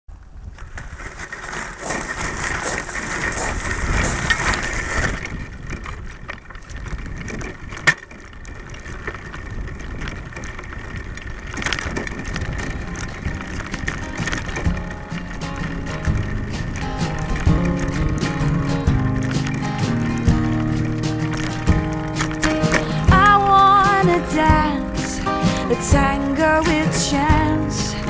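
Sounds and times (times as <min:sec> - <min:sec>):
bicycle tyres crunching and rattling: 0:00.1 - 0:28.0.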